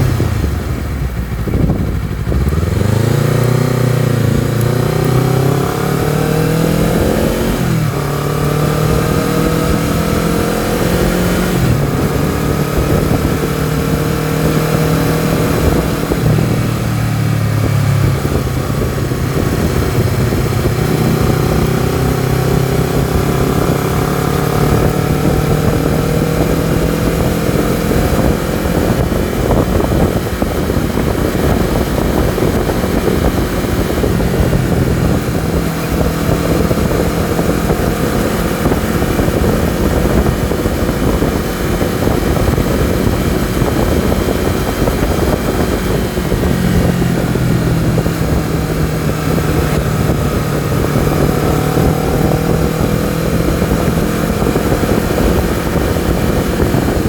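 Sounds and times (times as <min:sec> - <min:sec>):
gear shifts: 0:00.0 - 0:57.0
motorcycle engine and exhaust: 0:00.0 - 0:57.0
wind rush on camera: 0:00.0 - 0:57.0.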